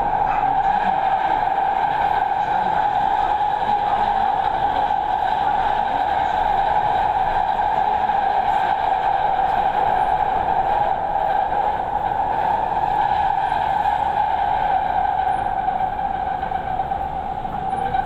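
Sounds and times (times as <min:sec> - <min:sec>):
train hum and rumble: 0:00.0 - 0:18.0.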